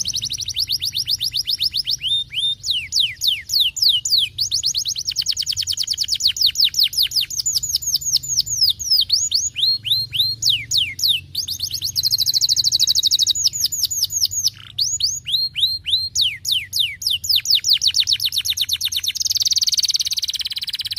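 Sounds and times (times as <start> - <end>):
canary singing: 0.0 - 20.9.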